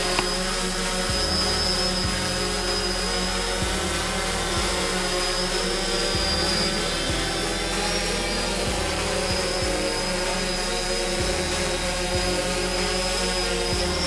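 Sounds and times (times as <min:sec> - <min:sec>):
quadcopter drone whine: 0:00.0 - 0:14.0.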